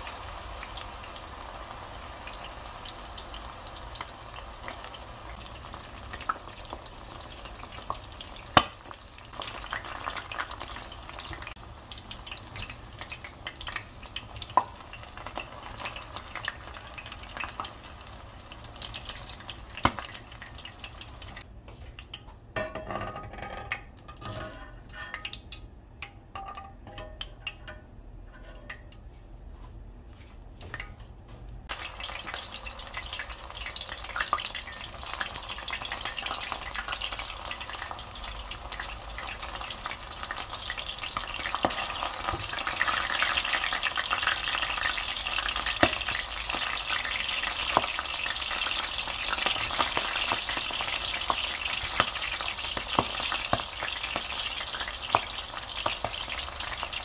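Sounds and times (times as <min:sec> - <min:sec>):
squid frying in hot oil: 0:00.0 - 0:21.5, 0:31.7 - 0:57.0.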